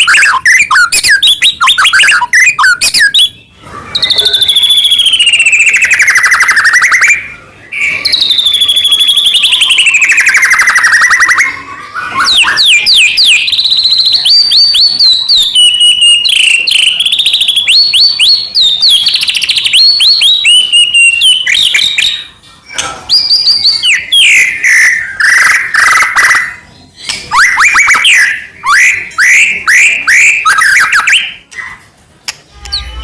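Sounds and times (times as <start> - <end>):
bird singing: 0.0 - 31.8.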